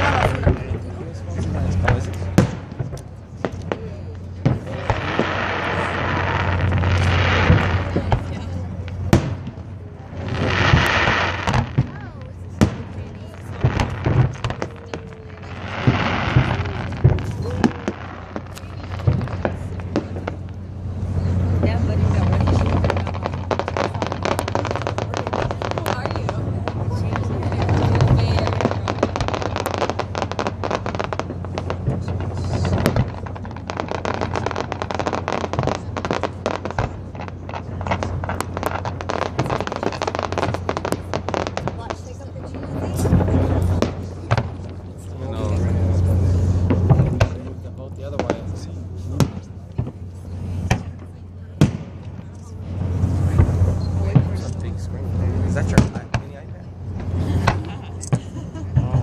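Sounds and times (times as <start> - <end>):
faint crowd voices: 0.0 - 59.0
fireworks bangs: 0.0 - 59.0
fireworks hiss: 0.0 - 59.0
steady low hum: 0.0 - 59.0.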